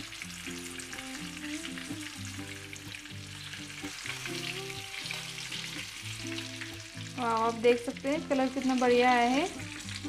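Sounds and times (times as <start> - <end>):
fish sizzling in oil: 0.0 - 10.0
soft background music: 0.0 - 10.0.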